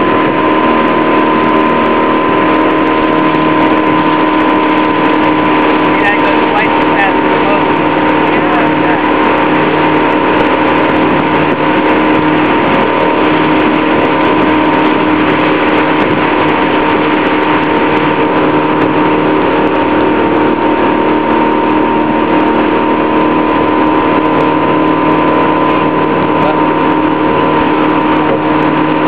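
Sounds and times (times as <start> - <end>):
motorboat engine running: 0.0 - 29.0
water rushing: 0.0 - 29.0.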